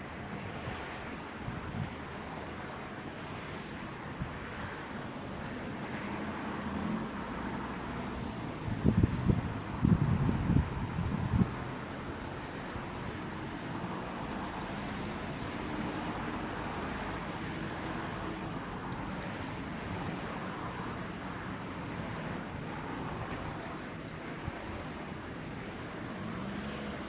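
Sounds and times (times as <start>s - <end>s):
distant road traffic: 0.0s - 27.0s
wind: 0.0s - 27.0s.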